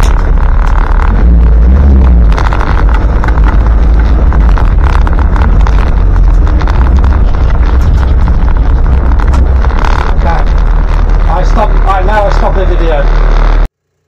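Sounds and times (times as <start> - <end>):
diesel engine droning with clatter: 0.0 - 14.0.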